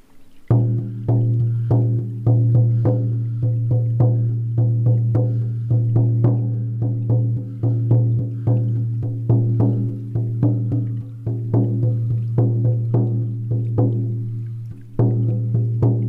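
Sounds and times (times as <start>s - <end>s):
frame drum beats: 0.4s - 16.0s.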